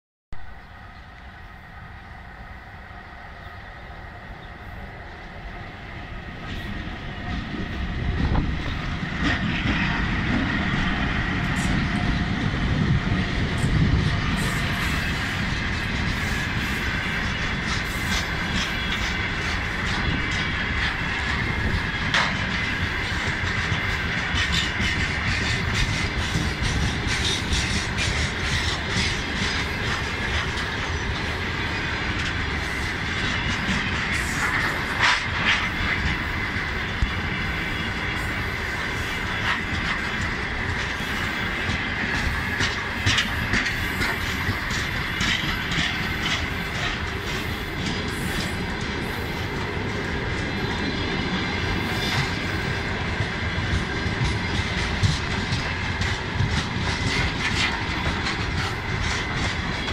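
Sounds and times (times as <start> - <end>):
train wheels rumbling on rails: 0.3 - 59.9
wheels clacking over rail joints: 6.4 - 59.9.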